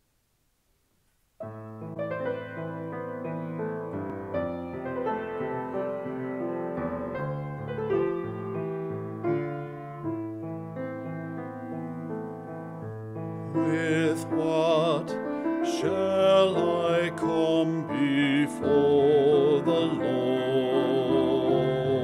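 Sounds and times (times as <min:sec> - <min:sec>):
slow piano chords and melody: 0:01.4 - 0:22.0.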